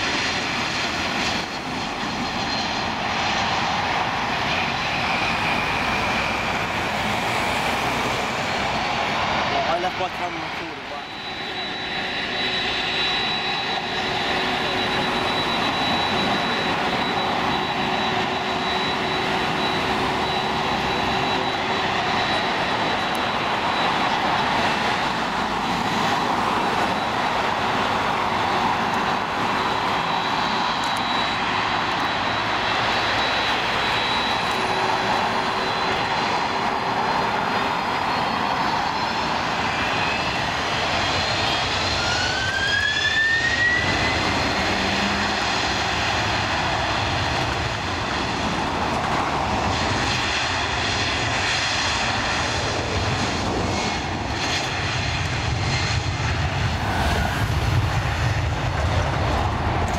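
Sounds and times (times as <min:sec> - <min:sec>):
high engine whine: 0:00.0 - 0:59.9
jet engines roaring: 0:00.0 - 0:59.9.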